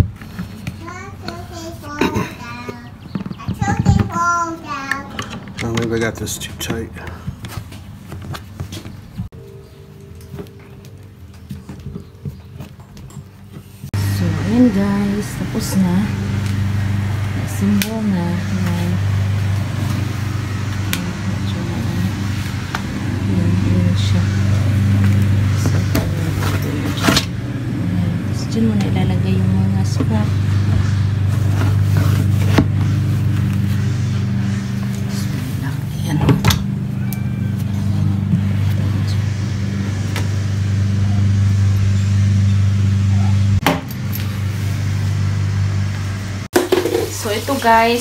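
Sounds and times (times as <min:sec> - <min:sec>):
machine humming: 0:01.5 - 0:48.0.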